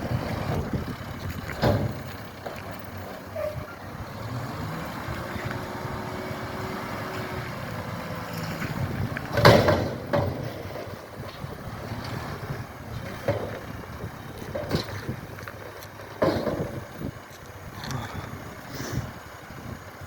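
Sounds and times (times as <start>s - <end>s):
garbage truck diesel engine: 0.0s - 20.0s
wind buffeting microphone: 0.0s - 20.0s.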